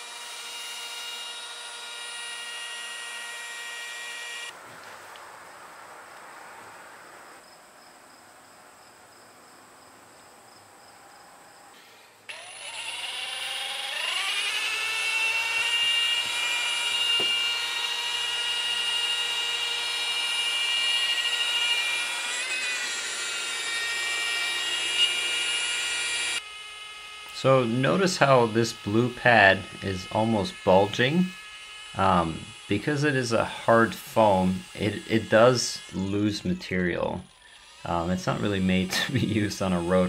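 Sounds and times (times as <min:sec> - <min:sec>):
rotary polisher whine: 0:00.0 - 0:05.0, 0:11.6 - 0:40.0.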